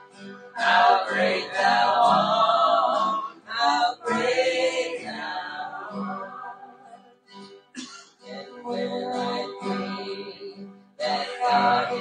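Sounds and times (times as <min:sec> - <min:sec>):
group of voices singing: 0:00.0 - 0:07.1, 0:08.2 - 0:12.0
musical accompaniment: 0:00.0 - 0:12.0.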